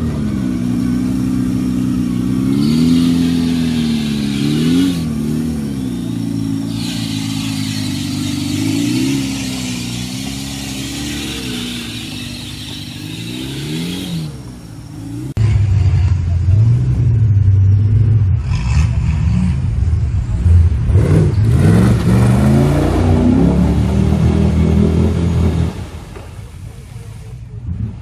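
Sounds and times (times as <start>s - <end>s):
engine revving under load: 0.0s - 26.3s.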